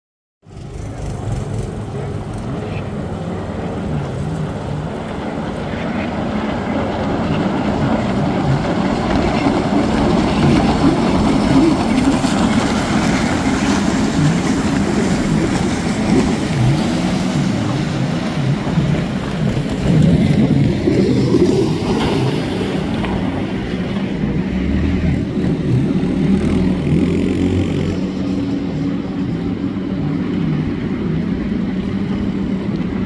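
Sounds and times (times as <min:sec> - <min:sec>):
jet ski engines revving: 0:00.5 - 0:33.0.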